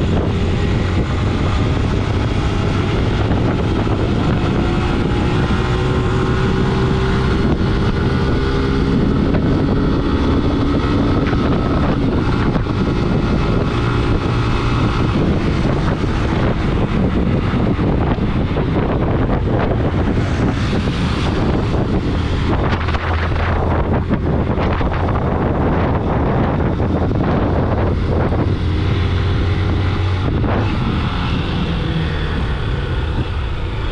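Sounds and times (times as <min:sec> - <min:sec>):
vehicle engine running: 0:00.0 - 0:33.9
wind buffeting microphone: 0:00.0 - 0:33.9.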